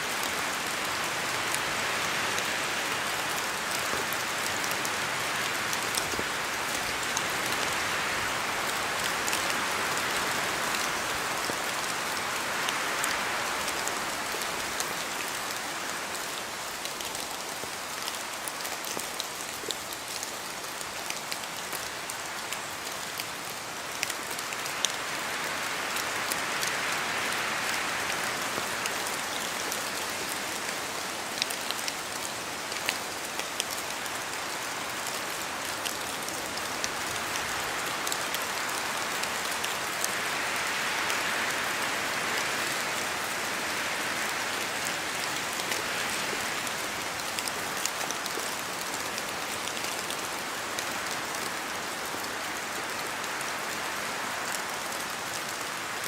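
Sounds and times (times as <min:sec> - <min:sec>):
steady rain in forest: 0:00.0 - 0:56.0
wind through branches: 0:00.0 - 0:56.0.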